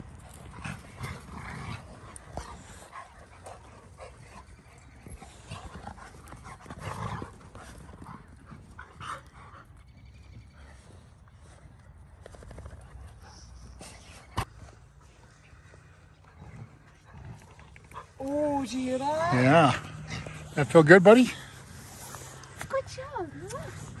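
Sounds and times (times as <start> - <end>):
dogs vocalizing while playing: 0.0 - 11.7, 12.3 - 24.0
dogs panting: 0.0 - 24.0.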